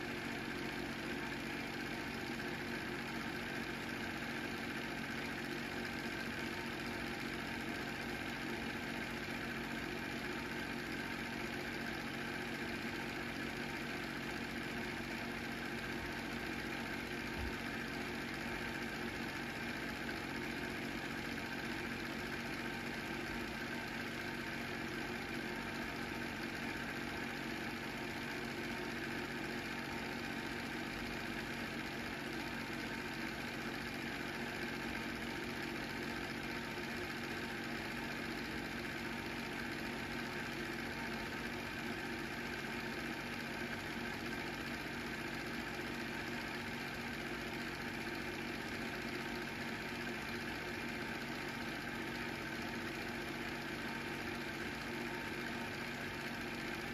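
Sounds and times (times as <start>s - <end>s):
film projector whirring: 0.0s - 56.9s.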